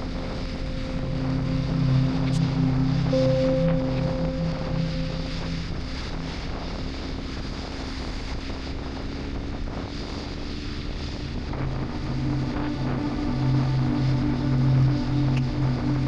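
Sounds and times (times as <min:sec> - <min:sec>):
wind rushing over microphone: 0:00.0 - 0:15.5.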